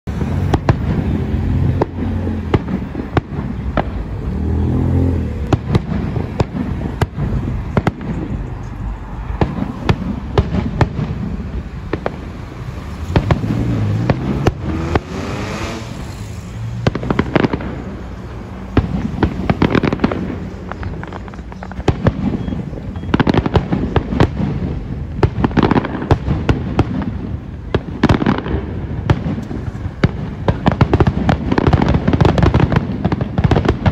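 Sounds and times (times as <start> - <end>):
fireworks bursting with crackle: 0.0 - 33.9.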